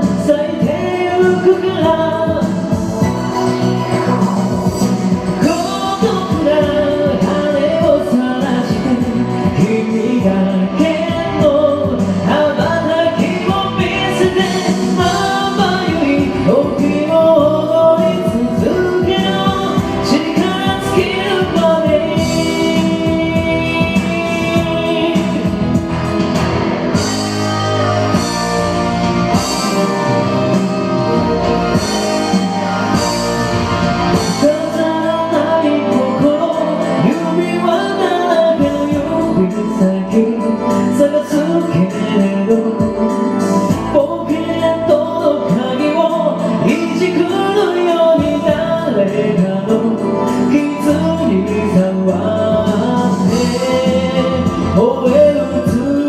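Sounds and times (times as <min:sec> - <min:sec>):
person singing karaoke: 0:00.0 - 0:56.0
pop band backing track: 0:00.0 - 0:56.0.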